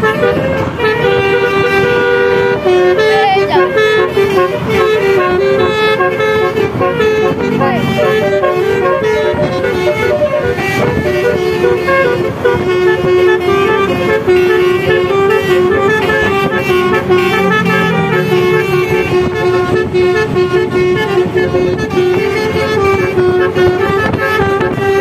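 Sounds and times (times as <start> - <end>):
vehicle horn playing melody: 0.0 - 25.0.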